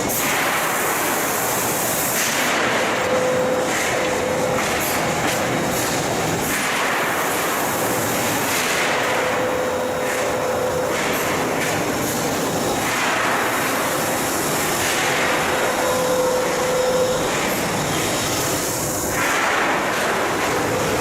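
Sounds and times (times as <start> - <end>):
rolling mechanical noise of rollers: 0.0 - 21.0.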